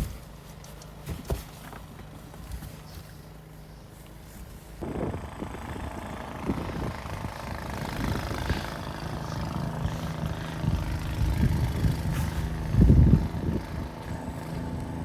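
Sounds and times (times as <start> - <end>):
engine running with hum: 0.0 - 15.0.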